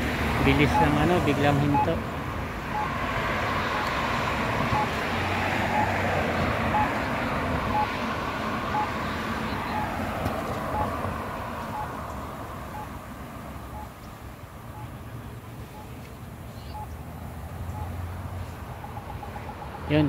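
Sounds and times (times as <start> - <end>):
crosswalk signal beeping: 0.0 - 20.0
road traffic passing: 0.0 - 20.0.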